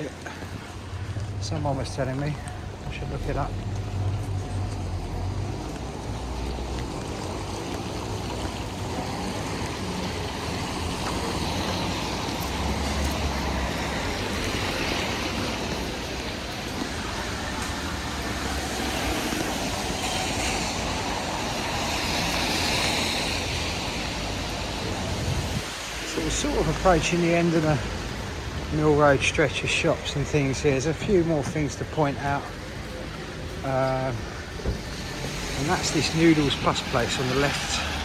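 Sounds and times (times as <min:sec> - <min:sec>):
vehicles passing on wet road: 0:00.0 - 0:38.0.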